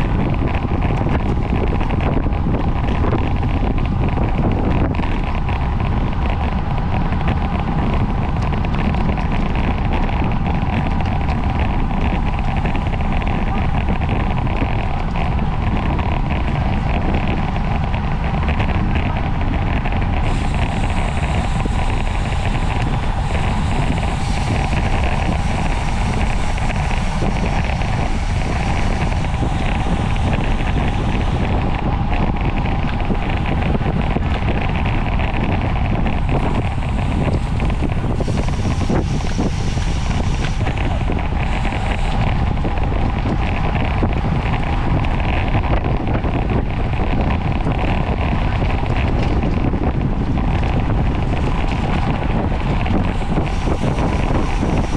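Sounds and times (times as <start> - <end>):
constant hum: 0.0 - 54.9
wind rush buffeting microphone: 0.0 - 54.9.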